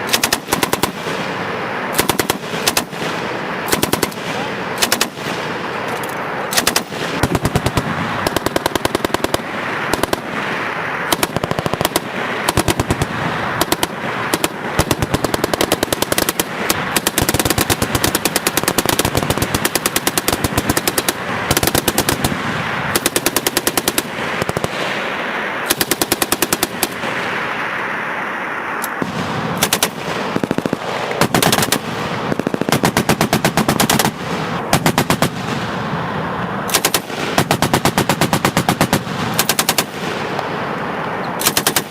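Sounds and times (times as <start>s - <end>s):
machine gun bursts: 0.0s - 1.3s, 2.0s - 5.4s, 6.0s - 10.3s, 11.0s - 24.9s, 25.7s - 27.1s, 29.6s - 35.4s, 36.7s - 40.0s, 41.4s - 41.9s.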